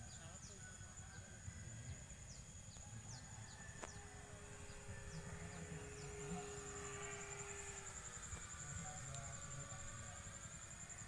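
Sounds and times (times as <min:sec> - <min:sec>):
faint low hum: 0:00.0 - 0:11.0
high insect drone: 0:00.0 - 0:11.0.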